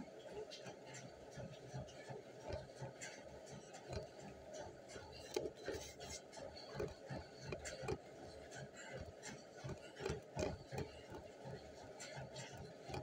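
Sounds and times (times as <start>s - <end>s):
running footfalls on a treadmill: 0.0s - 13.0s.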